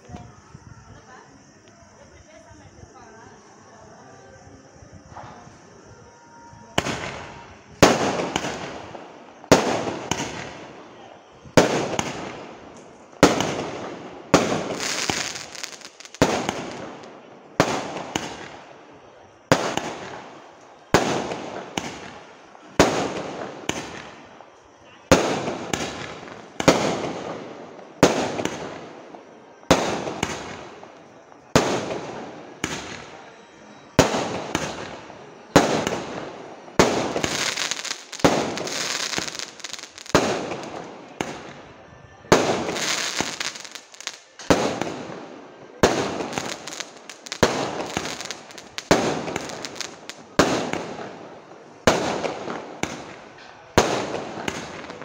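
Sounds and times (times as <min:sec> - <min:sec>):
firework cake shots: 0:06.6 - 0:55.0.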